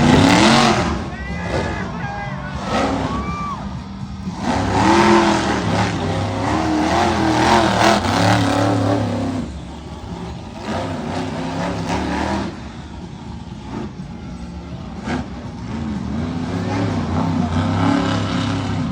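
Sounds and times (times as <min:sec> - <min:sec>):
monster truck engine revving: 0:00.0 - 0:18.9.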